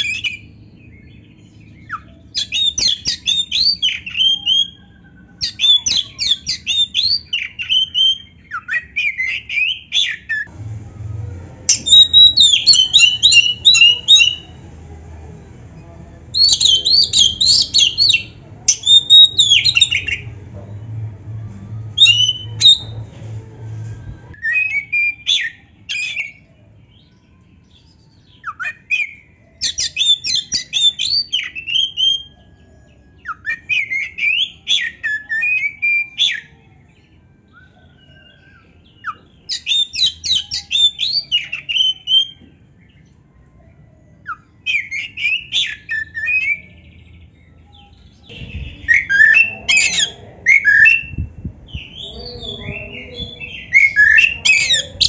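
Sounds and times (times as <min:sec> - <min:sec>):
bird singing: 0:00.0 - 0:10.5, 0:11.7 - 0:14.6, 0:15.8 - 0:21.0, 0:21.8 - 0:23.0, 0:24.3 - 0:55.0.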